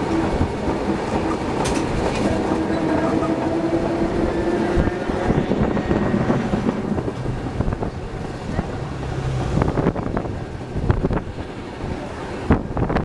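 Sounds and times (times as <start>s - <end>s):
streetcar wheels rumbling on track: 0.0s - 13.0s.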